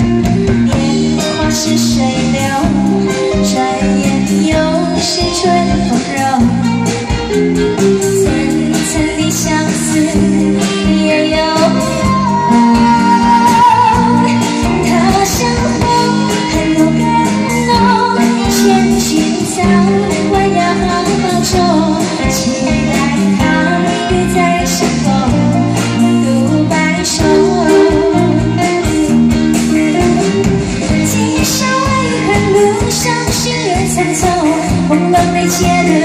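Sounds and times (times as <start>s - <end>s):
bass guitar: 0.0s - 36.0s
electric guitars: 0.0s - 36.0s
woman singing amplified: 0.0s - 36.0s.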